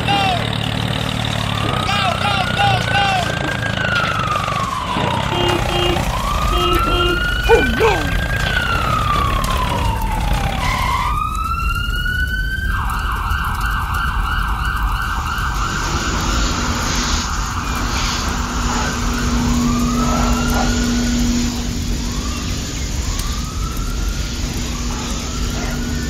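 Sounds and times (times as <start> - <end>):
emergency siren wailing and yelping: 0.0 - 26.0.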